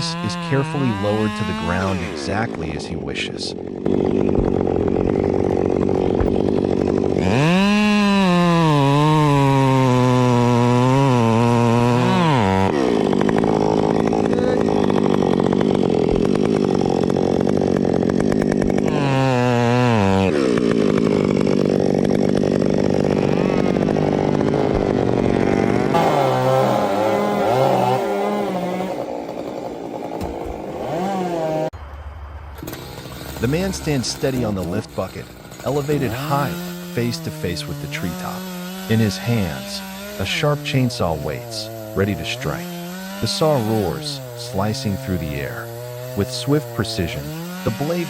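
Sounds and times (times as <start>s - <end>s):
chainsaw cutting into tree trunk: 0.0s - 31.8s, 32.6s - 48.0s.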